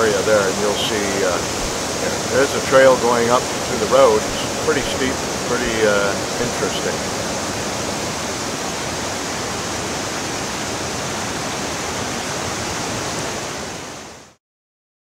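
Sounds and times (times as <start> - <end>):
water rushing over boulders: 0.0 - 14.4.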